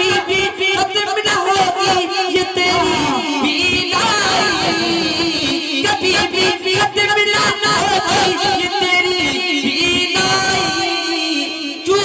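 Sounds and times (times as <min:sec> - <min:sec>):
man singing through pa system: 0:00.0 - 0:12.0.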